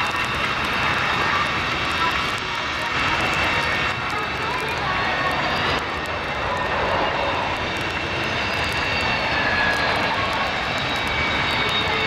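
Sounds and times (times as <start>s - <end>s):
jet engines rumbling and whining: 0.0s - 12.0s.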